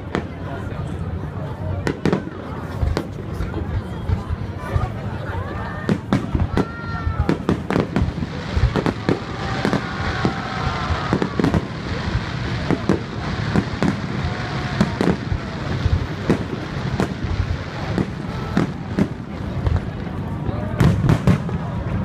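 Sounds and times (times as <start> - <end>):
background noise haze: 0.0 - 22.0
fireworks bursting: 1.8 - 22.0.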